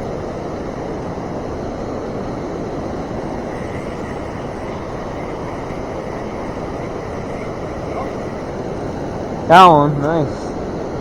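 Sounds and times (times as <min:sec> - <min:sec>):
river water rushing: 0:00.0 - 0:10.8.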